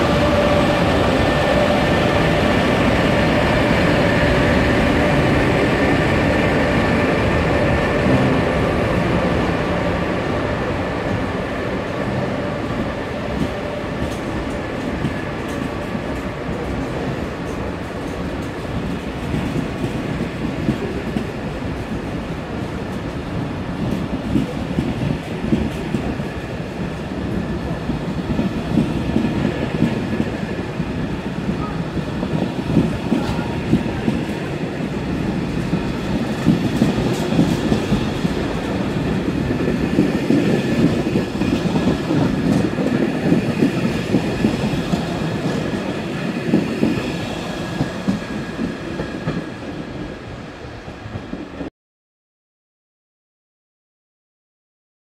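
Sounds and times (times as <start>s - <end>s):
train wheels rumbling: 0.0s - 51.7s.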